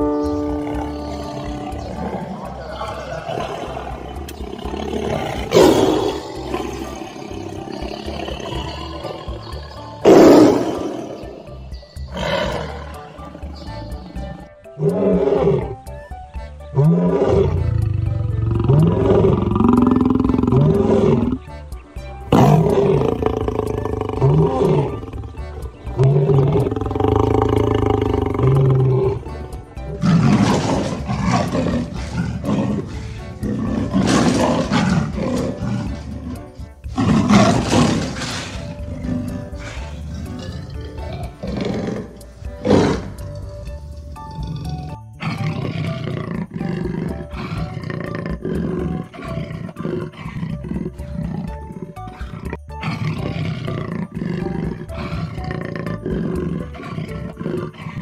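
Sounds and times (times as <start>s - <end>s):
animal roaring: 0.0s - 15.9s, 16.7s - 21.5s, 22.3s - 58.0s
background music: 0.0s - 58.0s.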